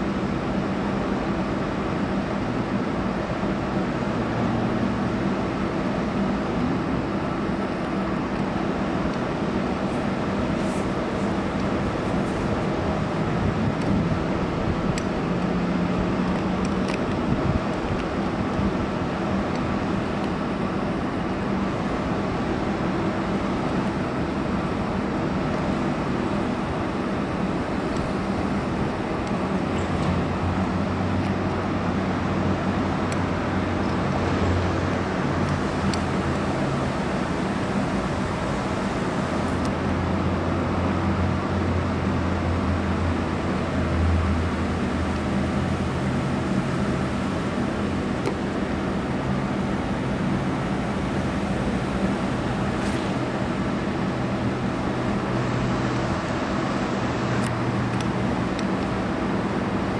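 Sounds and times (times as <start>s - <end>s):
city road traffic rumble: 0.0s - 59.9s
low engine drone: 0.0s - 59.9s.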